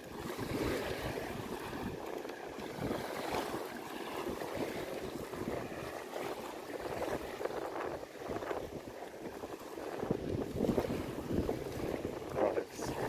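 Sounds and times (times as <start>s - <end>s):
small waves washing onto sand: 0.0s - 13.0s
wind buffeting microphone: 0.0s - 13.0s.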